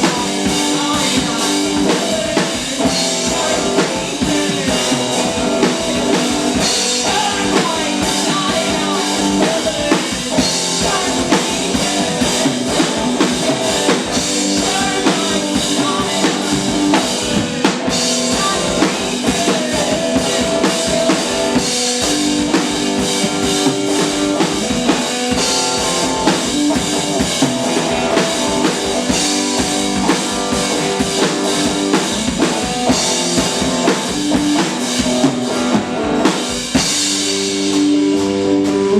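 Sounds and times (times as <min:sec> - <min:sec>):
drum kit steady beat: 0:00.0 - 0:38.9
guitar: 0:00.0 - 0:38.9.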